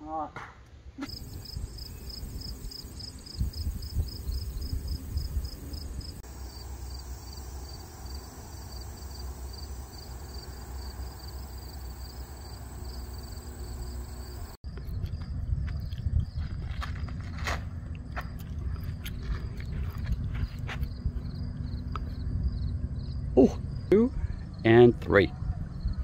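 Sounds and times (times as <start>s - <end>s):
insect chirping: 1.0s - 17.2s, 17.9s - 24.9s, 25.7s - 26.0s.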